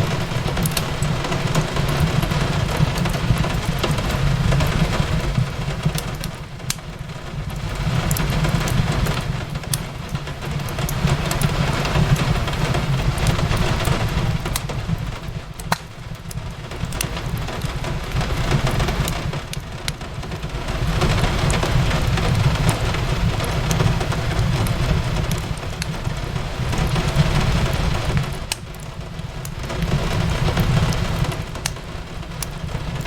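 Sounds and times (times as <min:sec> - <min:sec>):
fireplace crackling and popping: 0:00.0 - 0:33.0
rain on a window: 0:00.0 - 0:33.0.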